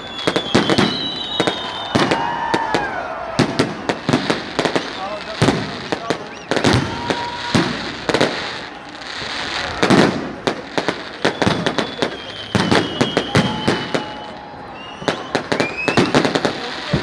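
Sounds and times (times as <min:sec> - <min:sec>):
firework whistles: 0:00.0 - 0:17.0
fireworks bangs and crackles: 0:00.0 - 0:17.0.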